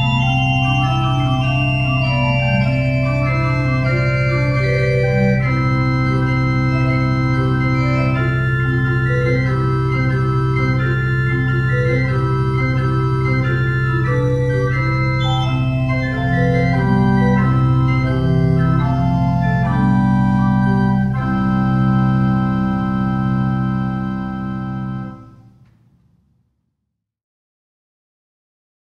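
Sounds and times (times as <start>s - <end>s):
pipe organ playing chords: 0.0s - 26.0s.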